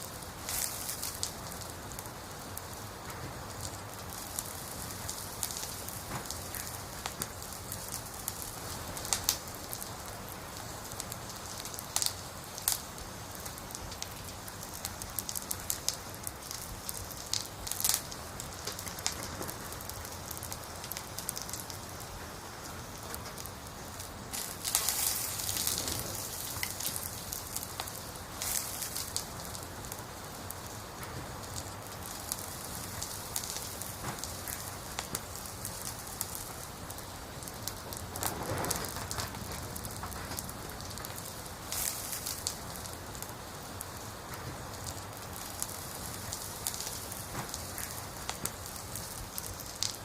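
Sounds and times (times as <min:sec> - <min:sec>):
wood fire crackling and hissing: 0:00.0 - 0:50.0.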